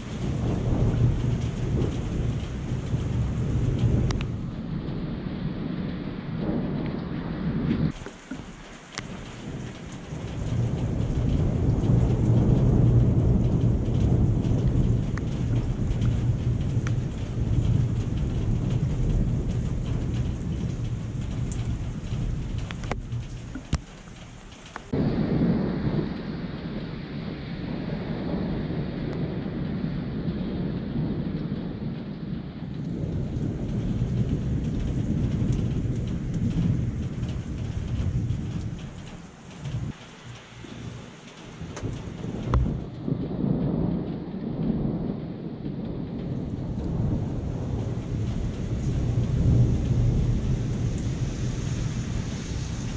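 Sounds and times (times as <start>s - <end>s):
raindrops ticking: 0.0s - 27.2s, 29.1s - 52.9s
steady rain: 0.0s - 52.9s
thunder rumbling: 0.0s - 52.9s.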